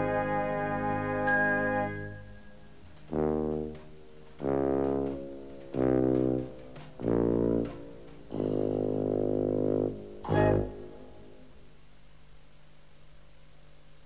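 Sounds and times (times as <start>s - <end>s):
brass held notes: 0.0s - 11.6s.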